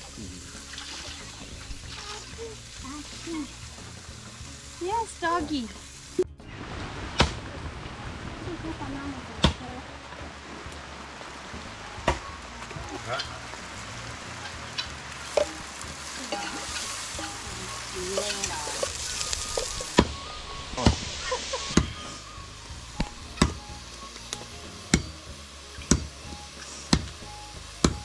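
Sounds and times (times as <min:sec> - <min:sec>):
chicken sizzling in hot oil: 0:00.0 - 0:08.2, 0:09.4 - 0:28.0.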